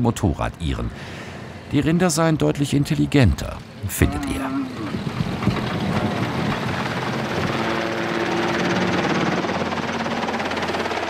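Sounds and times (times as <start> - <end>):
steady multi-pitched hum: 0.1 - 11.0
helicopter rotor beating: 1.5 - 11.0.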